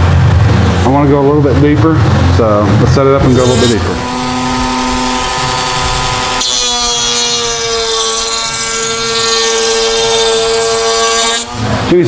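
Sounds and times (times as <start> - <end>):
router bit cutting wood: 2.1 - 12.0
router motor whine: 2.1 - 12.0.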